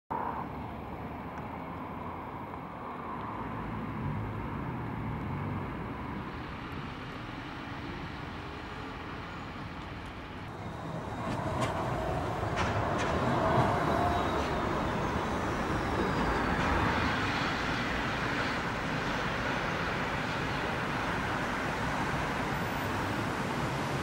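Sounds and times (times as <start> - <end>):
passing vehicles hissing: 0.1 - 24.0.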